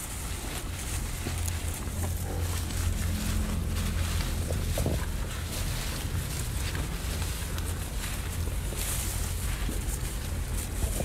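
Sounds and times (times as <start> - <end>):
animal chewing grass: 0.0 - 11.0
steady low rumble: 0.0 - 11.0.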